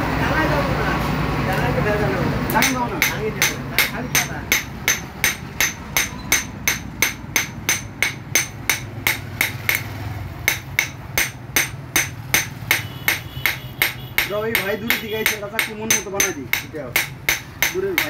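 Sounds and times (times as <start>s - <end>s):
hammer striking metal on anvil: 2.5s - 18.0s.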